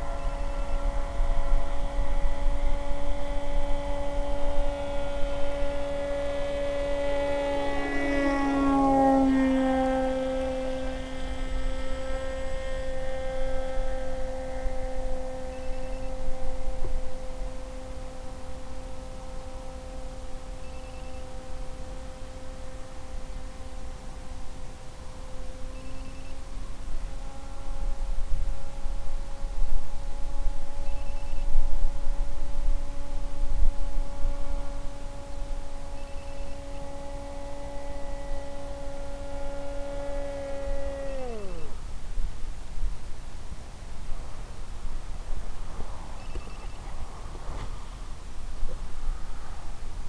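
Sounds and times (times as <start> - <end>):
model plane motor whine: 0.0 - 45.2, 45.8 - 50.0.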